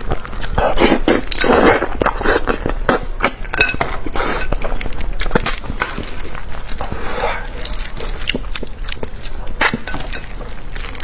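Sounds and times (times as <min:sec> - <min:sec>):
close-miked chewing and smacking: 0:00.0 - 0:11.0.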